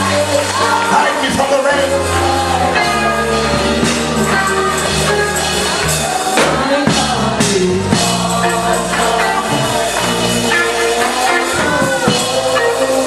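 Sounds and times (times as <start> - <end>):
church band playing: 0.0 - 13.0
drums: 0.0 - 13.0
people singing: 0.0 - 13.0.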